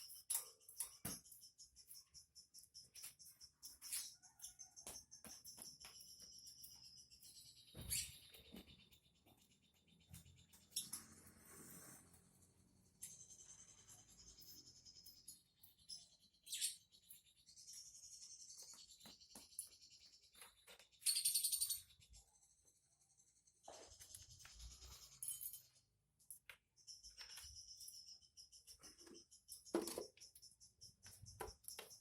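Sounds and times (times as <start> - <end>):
songbird twittering and chirping: 0.0 - 32.0.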